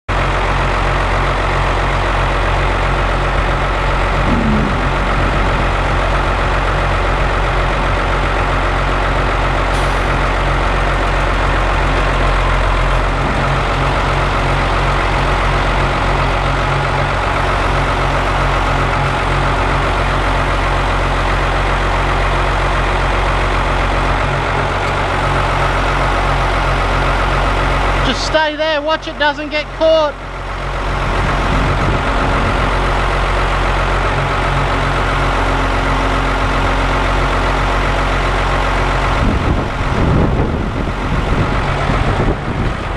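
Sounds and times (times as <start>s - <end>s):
engine idling: 0.1s - 42.9s.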